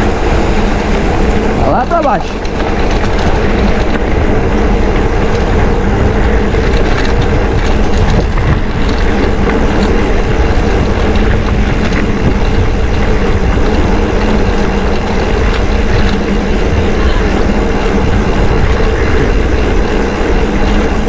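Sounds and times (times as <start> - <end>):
bike rattling over bumps: 0.0 - 21.0
wind rushing on microphone: 0.0 - 21.0.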